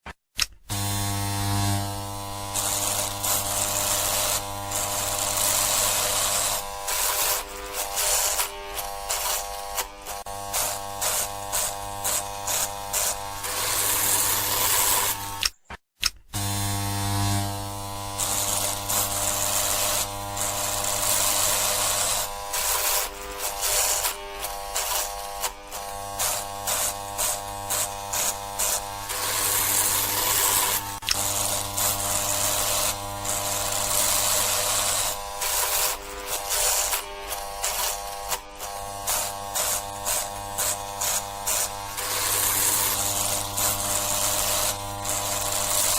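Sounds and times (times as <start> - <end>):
electric shaver buzzing: 0.4 - 15.5, 16.3 - 45.9.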